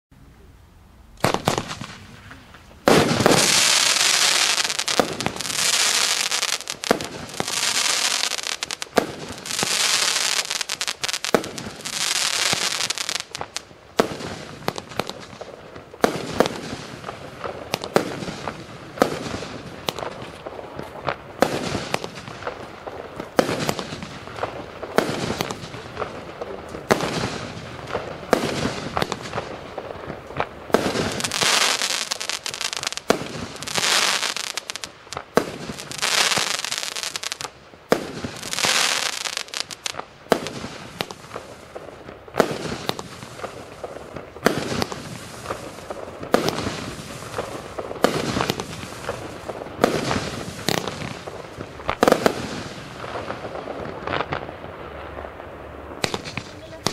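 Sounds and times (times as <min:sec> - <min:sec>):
fireworks hissing crackle: 0:01.1 - 0:56.9
fireworks shots banging: 0:01.2 - 0:56.9.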